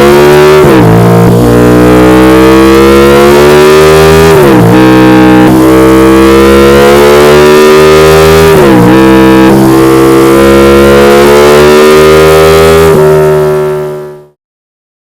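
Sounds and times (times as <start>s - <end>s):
motorcycle engine accelerating hard: 0.0s - 14.4s.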